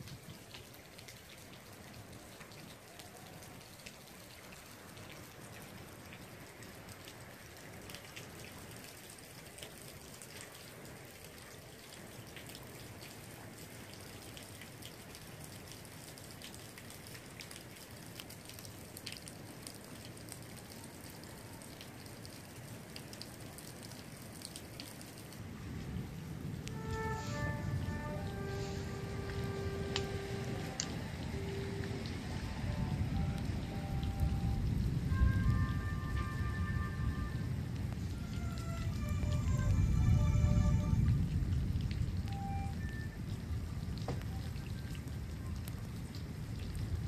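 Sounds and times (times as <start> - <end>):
drips on wet pavement: 0.0 - 47.0
light rain hissing: 0.0 - 47.0.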